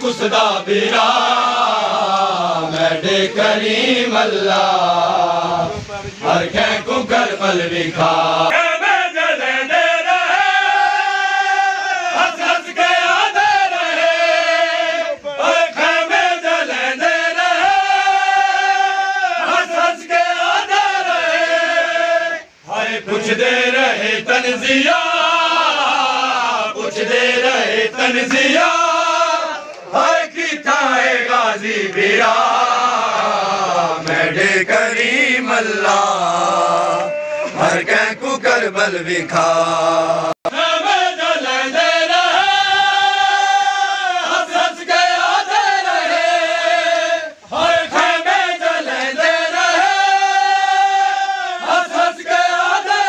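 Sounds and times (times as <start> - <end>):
voices chanting devotional poetry: 0.0 - 53.0.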